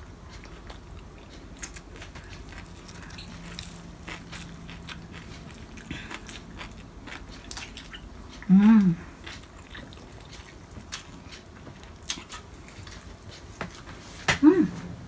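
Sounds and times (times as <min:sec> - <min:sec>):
person chewing crunchy food: 0:00.0 - 0:13.9.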